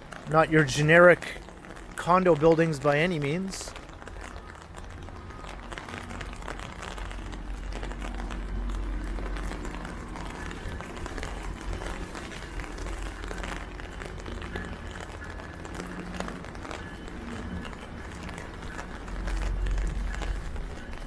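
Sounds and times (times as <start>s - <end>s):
heavy rain falling: 0.0s - 21.0s
low rumble: 0.0s - 21.0s.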